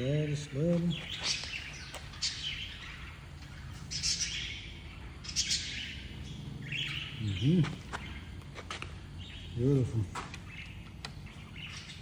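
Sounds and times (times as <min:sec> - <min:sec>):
birds chirping downward calls: 0:00.0 - 0:12.0
faint steady low hum: 0:00.0 - 0:12.0.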